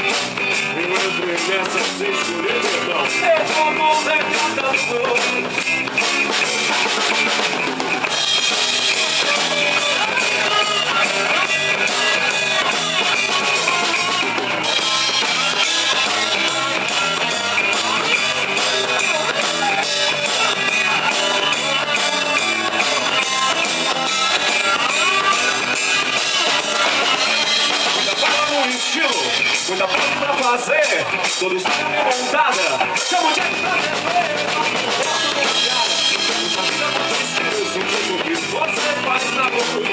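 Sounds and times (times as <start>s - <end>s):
drum-kit beat: 0.0s - 39.9s
electric guitar: 0.0s - 39.9s.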